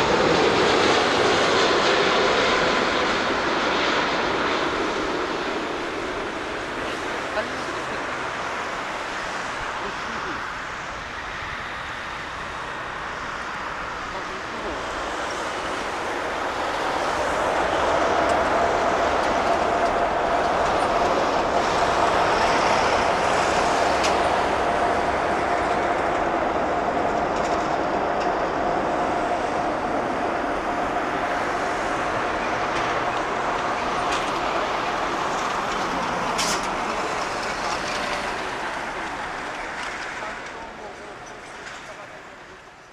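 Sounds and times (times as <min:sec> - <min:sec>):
jet engine roar: 0:00.0 - 0:42.9
steady jet whine: 0:00.0 - 0:42.9.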